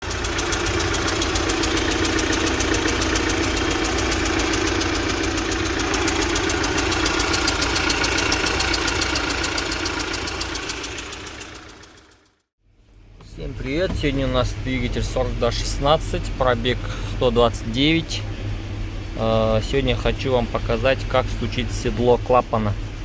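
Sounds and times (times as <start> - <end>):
engine running with ticking knock: 0.0 - 23.0.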